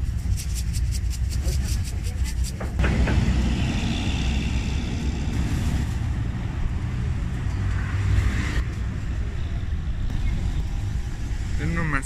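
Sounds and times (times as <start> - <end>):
road traffic rumble: 1.4 - 12.0.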